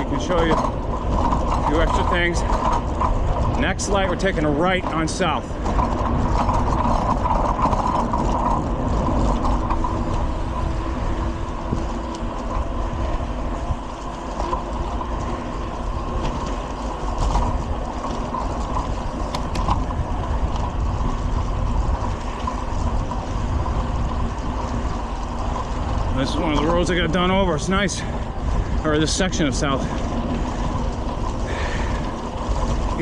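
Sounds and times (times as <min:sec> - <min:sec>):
light rattling ticks: 0:00.0 - 0:33.0
road and wind noise: 0:00.0 - 0:33.0.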